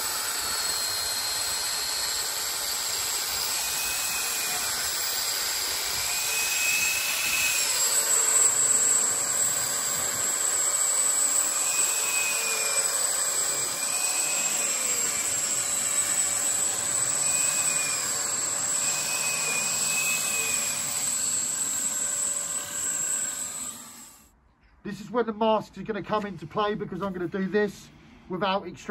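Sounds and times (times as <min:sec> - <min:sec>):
dust extractor running: 0:00.0 - 0:24.2
angle grinder whining: 0:00.0 - 0:24.3.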